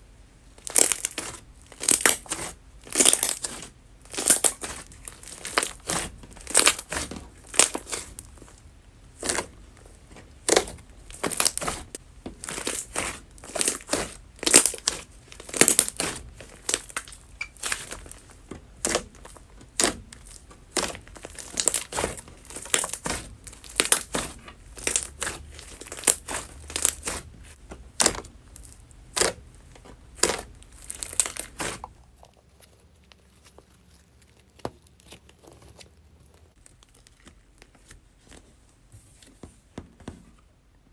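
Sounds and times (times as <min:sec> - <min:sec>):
slime squished by hand: 0:00.6 - 0:08.4, 0:09.1 - 0:09.6, 0:10.4 - 0:37.4.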